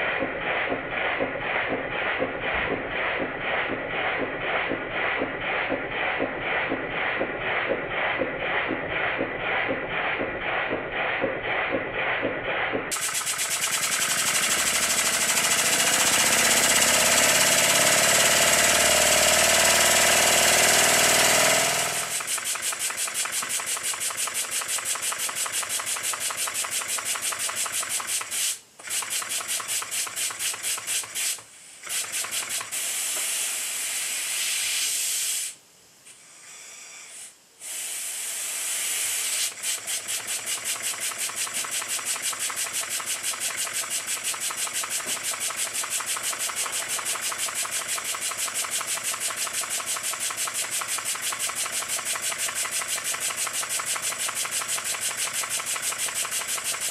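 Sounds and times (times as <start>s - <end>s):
steam engine exhaust beats: 0.0s - 35.6s, 36.2s - 56.9s
steam engine hissing rush: 0.0s - 56.9s.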